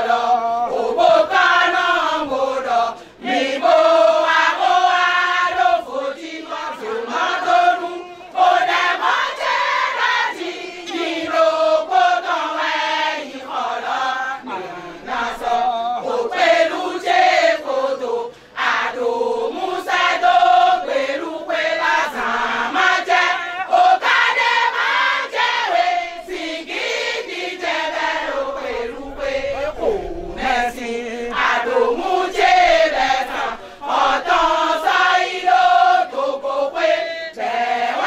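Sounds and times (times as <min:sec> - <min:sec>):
women singing chant-like song: 0:00.0 - 0:38.0.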